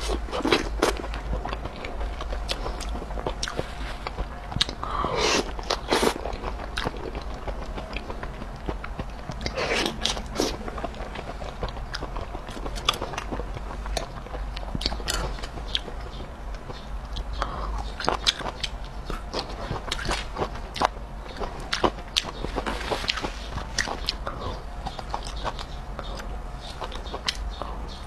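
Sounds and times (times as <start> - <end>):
chewing fried food: 0.0 - 28.0
mouth clicks and smacks: 0.0 - 28.0.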